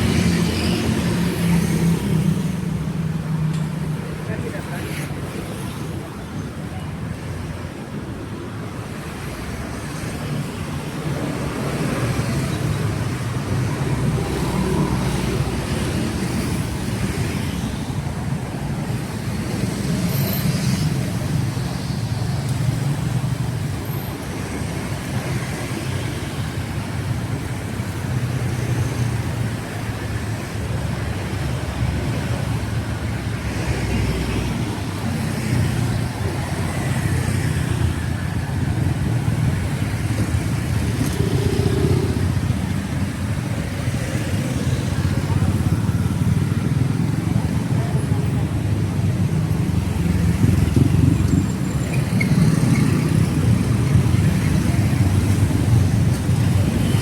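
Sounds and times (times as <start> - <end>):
passing vehicle engines rumbling: 0.0 - 57.0.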